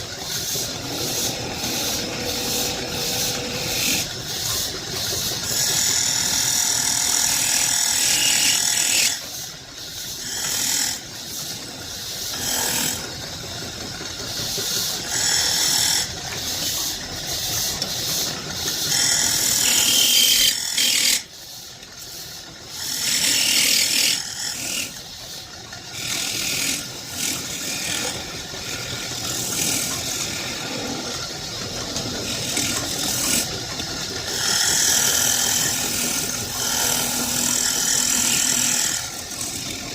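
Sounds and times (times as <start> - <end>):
tool rasping wood: 0.0 - 9.4, 10.1 - 13.2, 14.6 - 21.4, 22.6 - 25.1, 25.9 - 31.2, 31.8 - 33.6, 34.2 - 39.9.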